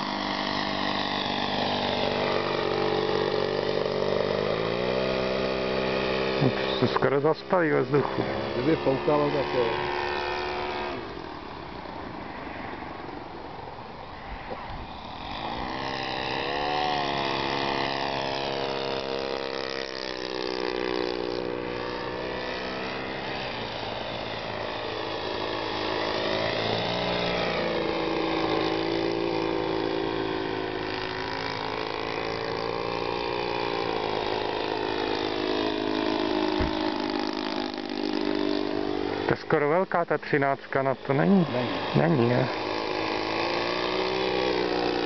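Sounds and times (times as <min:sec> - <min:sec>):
model airplane engine running: 0:00.0 - 0:45.0.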